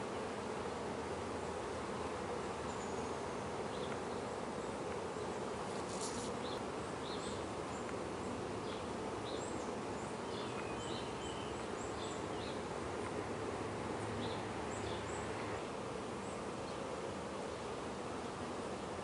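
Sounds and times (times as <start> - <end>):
bee colony humming: 0.0 - 19.0.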